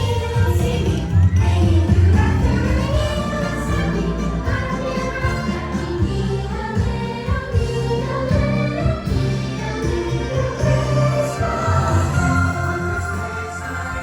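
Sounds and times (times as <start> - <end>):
choir singing with orchestra: 0.0 - 14.0.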